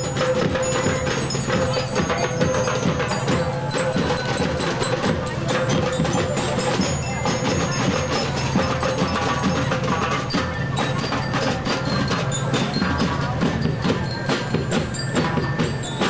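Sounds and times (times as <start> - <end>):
rapid drum strikes: 0.0 - 16.0
ringing metallic bell notes: 0.0 - 16.0.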